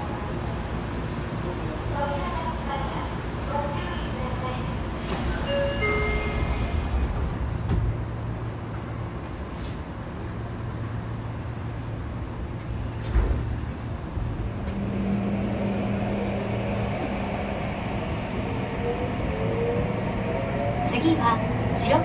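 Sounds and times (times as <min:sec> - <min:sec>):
train rumble and hum: 0:00.0 - 0:22.0.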